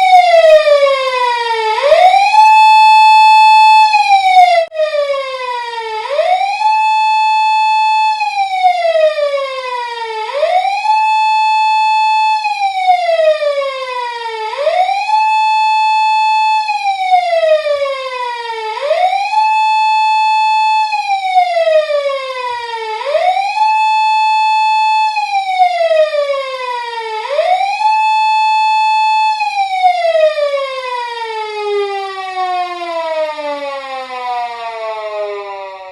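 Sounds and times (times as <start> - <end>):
police car siren wailing: 0.0 - 35.9.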